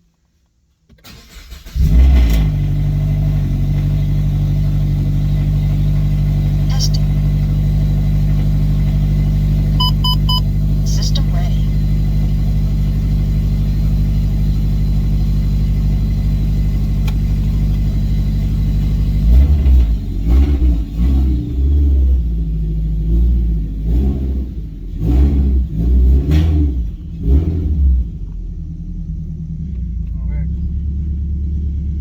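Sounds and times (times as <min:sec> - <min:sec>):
car engine idling and revving: 0:00.1 - 0:32.0.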